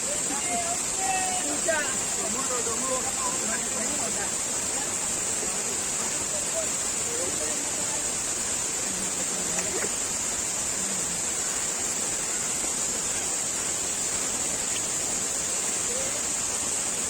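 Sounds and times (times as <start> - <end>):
high hiss: 0.0 - 17.0
waterfall rushing: 0.0 - 17.0.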